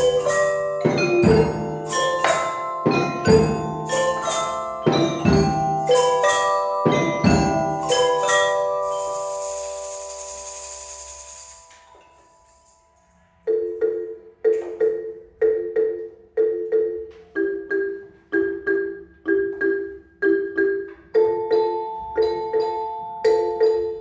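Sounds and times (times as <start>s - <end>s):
xylophone music: 0.0s - 24.0s.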